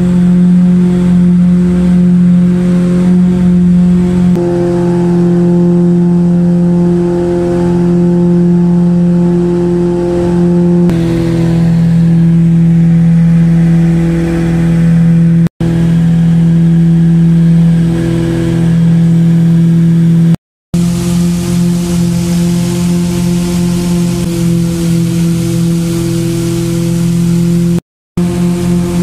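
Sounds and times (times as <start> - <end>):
propeller plane engines droning: 0.0 - 29.0.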